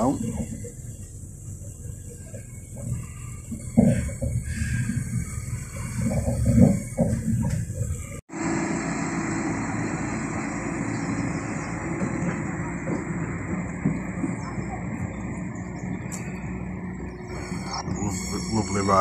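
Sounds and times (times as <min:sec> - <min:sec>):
train approaching along platform: 0:00.0 - 0:19.0
train running gear rumble: 0:00.0 - 0:19.0.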